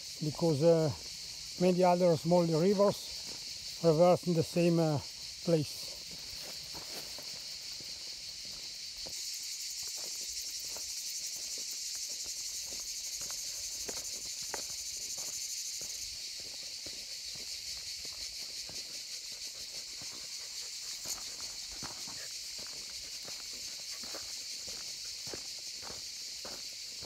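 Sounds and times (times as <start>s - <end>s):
footsteps crunching on dirt trail: 0.0s - 27.0s
high-pitched insect chorus: 0.0s - 27.0s.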